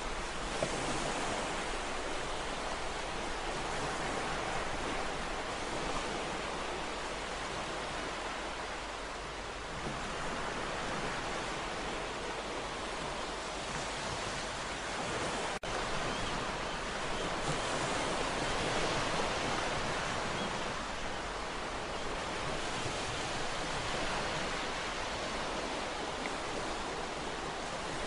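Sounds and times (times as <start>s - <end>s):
ocean surf washing: 0.0s - 28.0s.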